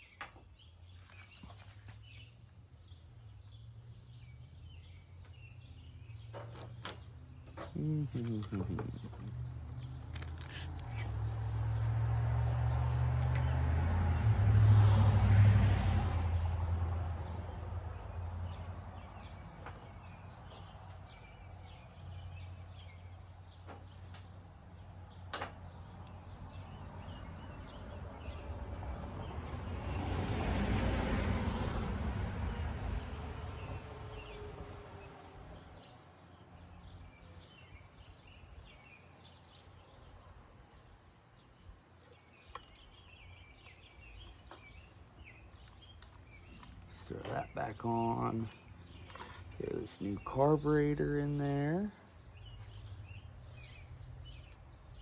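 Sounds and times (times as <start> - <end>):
vehicles passing by: 0.0 - 55.0.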